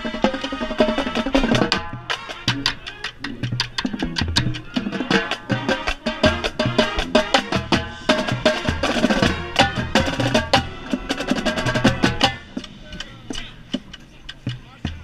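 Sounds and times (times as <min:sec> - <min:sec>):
brass chords: 0:00.0 - 0:13.8
marching band playing: 0:00.0 - 0:15.0
tenor drum strokes: 0:00.0 - 0:15.0.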